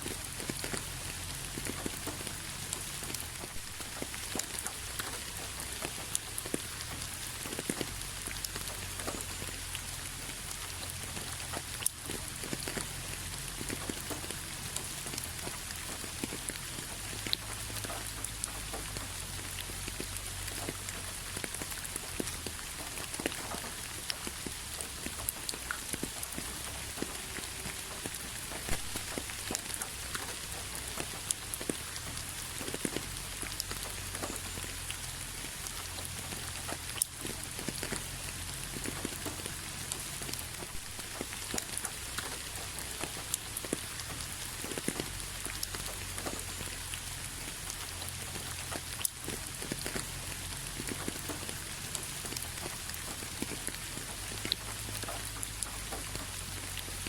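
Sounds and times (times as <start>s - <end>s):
raindrops ticking on a surface: 0.0s - 57.0s
steady rain hiss: 0.0s - 57.0s.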